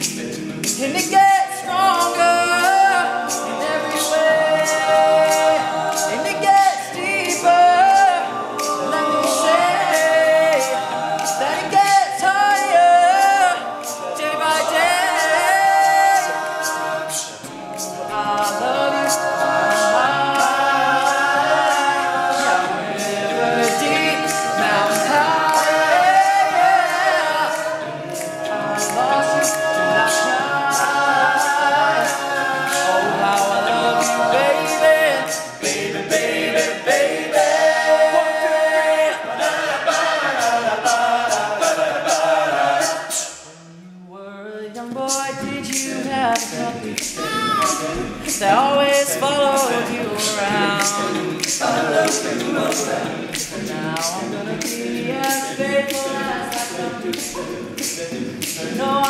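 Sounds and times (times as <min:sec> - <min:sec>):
male group singing in harmony: 0:00.0 - 0:44.0, 0:44.8 - 0:59.0
vocal percussive beats: 0:00.0 - 0:59.0.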